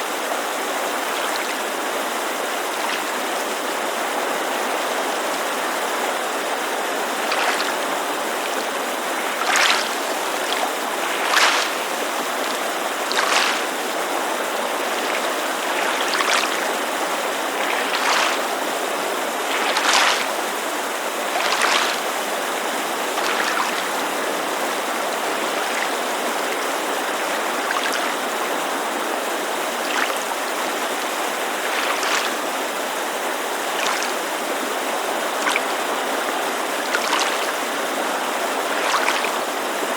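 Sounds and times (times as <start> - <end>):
mountain creek rushing: 0.0 - 39.9
small waves lapping shore: 0.0 - 39.9.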